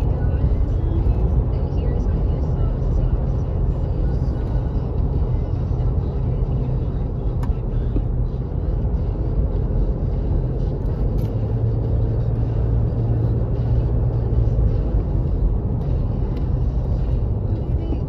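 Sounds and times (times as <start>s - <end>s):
car driving interior rumble: 0.0s - 18.0s.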